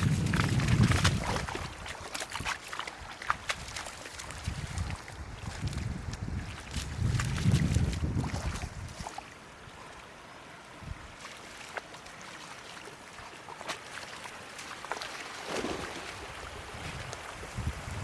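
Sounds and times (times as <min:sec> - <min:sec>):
floodwater sloshing and splashing: 0:00.0 - 0:18.0.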